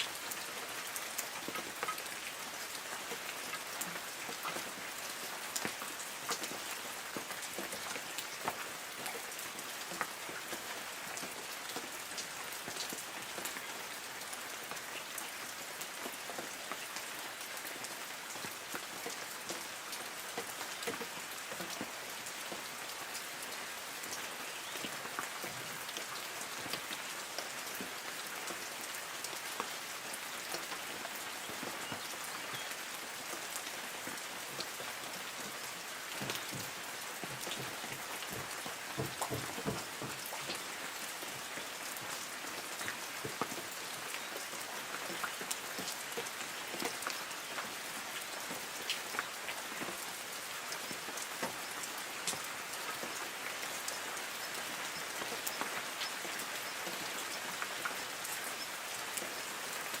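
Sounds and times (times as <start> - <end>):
light rain on trees: 0.0 - 60.0.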